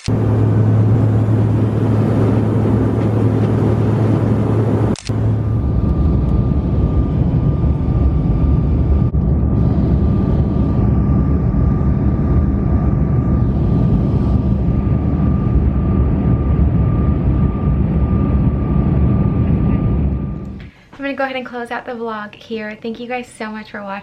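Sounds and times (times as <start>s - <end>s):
engine and air rumble: 0.0s - 20.9s.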